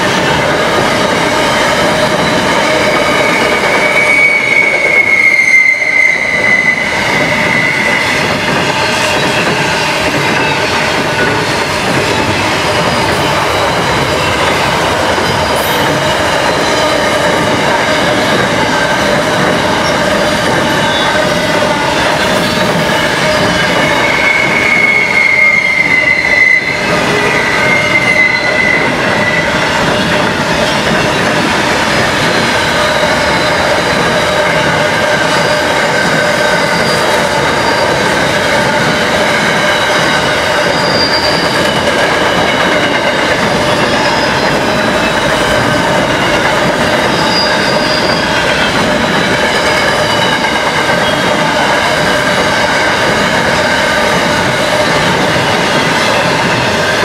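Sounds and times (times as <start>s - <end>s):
train wheels rumbling on rails: 0.0s - 57.0s
high-pitched wheel squeals: 1.1s - 11.2s, 12.2s - 18.8s, 19.5s - 52.4s.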